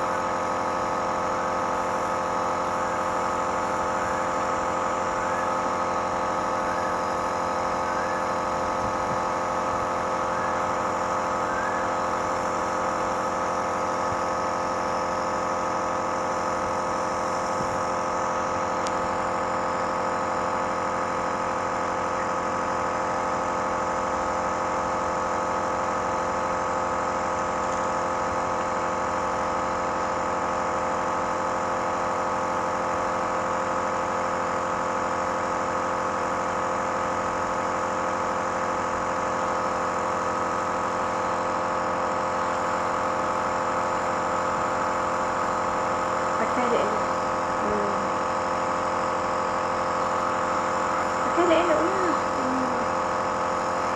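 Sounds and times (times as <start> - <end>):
nebuliser compressor humming: 0.0 - 53.9.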